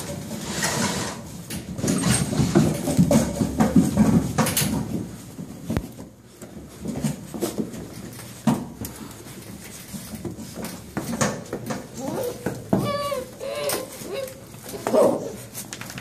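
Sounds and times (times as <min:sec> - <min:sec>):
puppies rustling: 0:00.0 - 0:16.0.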